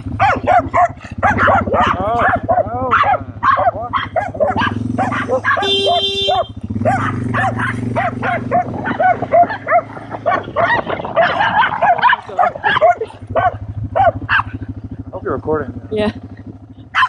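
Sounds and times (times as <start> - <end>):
dogs barking rapidly: 0.0 - 15.0
motorcycle engine humming: 0.0 - 17.0.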